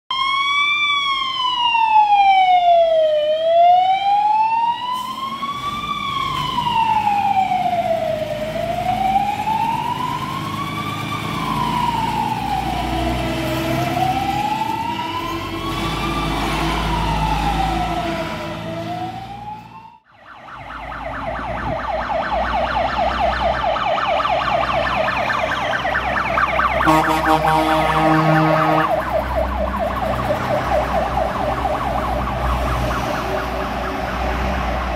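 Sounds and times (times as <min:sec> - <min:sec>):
rapidly warbling siren: 0:00.1 - 0:13.2, 0:13.8 - 0:34.9
fire engine siren wailing: 0:00.1 - 0:34.9
truck engine rumble: 0:04.2 - 0:34.9.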